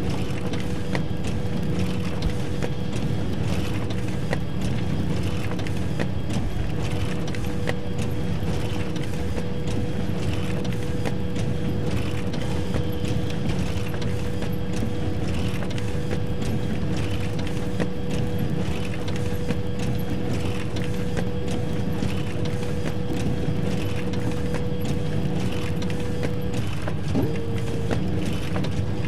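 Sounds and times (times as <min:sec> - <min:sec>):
photocopier click and whir: 0:00.1 - 0:29.0.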